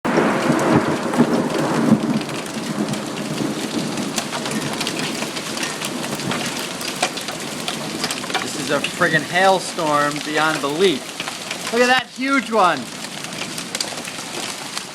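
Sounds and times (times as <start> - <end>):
hailstones clattering: 0.1 - 14.9.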